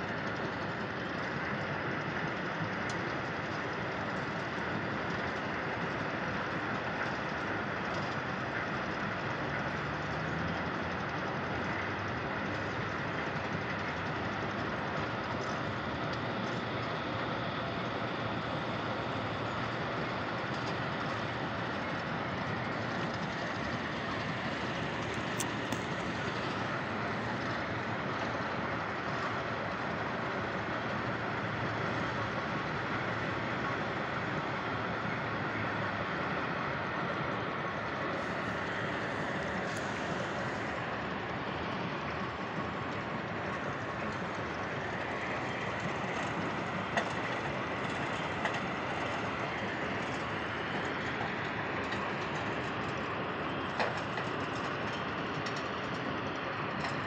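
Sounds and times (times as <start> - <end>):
distant excavator and truck engines: 0.0 - 57.0.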